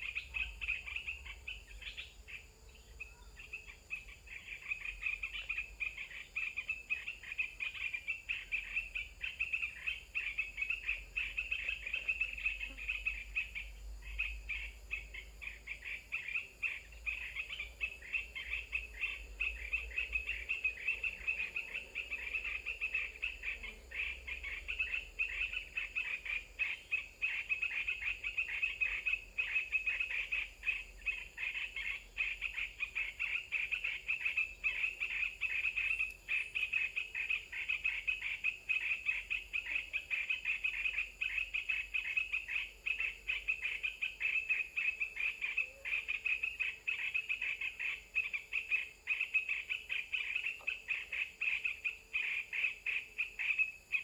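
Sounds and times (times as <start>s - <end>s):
rapid high animal chirping: 0.0s - 2.4s, 3.0s - 54.0s.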